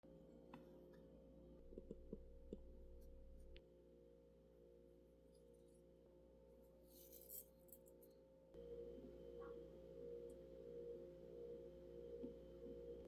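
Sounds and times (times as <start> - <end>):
faint room tone hum: 0.0 - 13.0.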